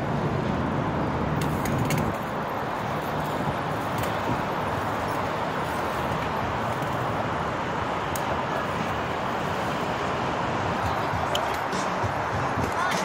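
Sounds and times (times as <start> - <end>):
traffic roar: 0.0 - 13.0.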